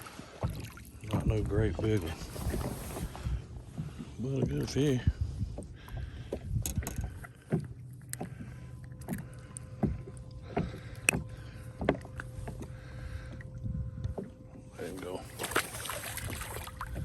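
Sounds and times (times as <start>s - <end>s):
knocks and clicks in a boat: 0.0s - 17.0s
low hum: 0.0s - 17.0s.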